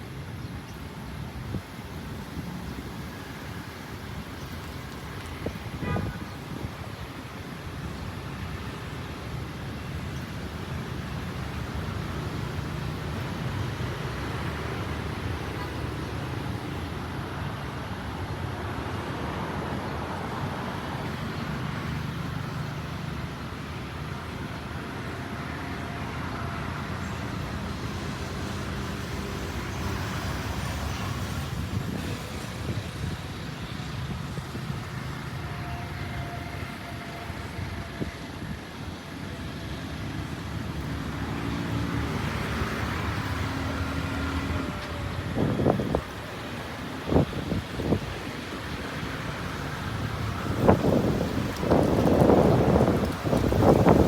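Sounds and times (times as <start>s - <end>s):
vehicle engines humming past: 0.0s - 54.0s.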